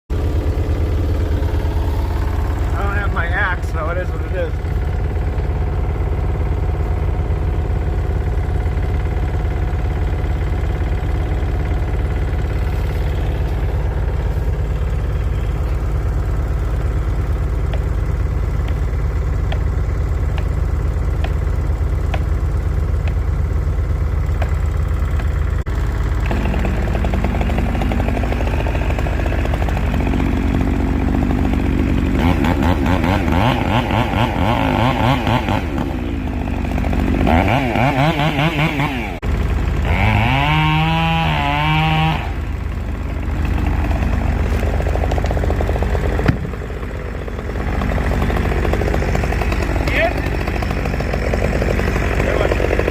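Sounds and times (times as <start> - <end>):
small engine running: 0.1 - 52.9.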